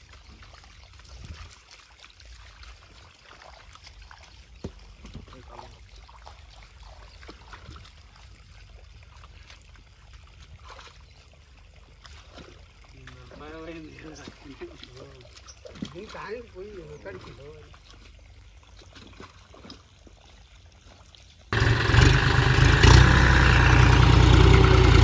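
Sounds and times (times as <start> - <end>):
mud squelching and sloshing: 0.0 - 25.0
small splashes: 0.0 - 25.0.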